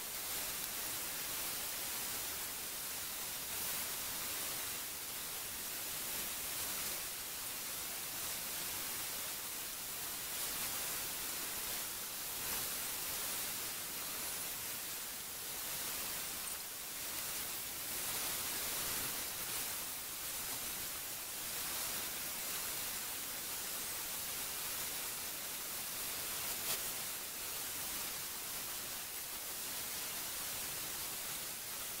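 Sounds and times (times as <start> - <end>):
steady high hiss: 0.0 - 32.0.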